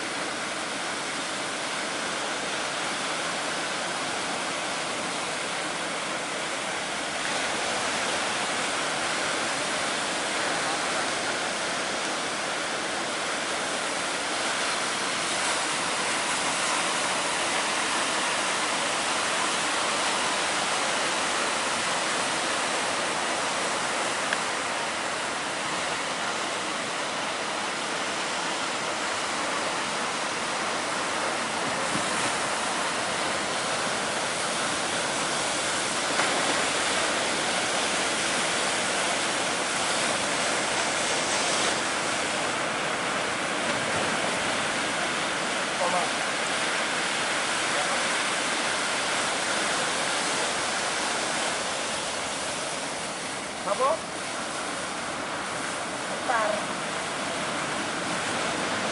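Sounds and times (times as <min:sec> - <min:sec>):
ocean surf breaking: 0:00.0 - 0:58.9.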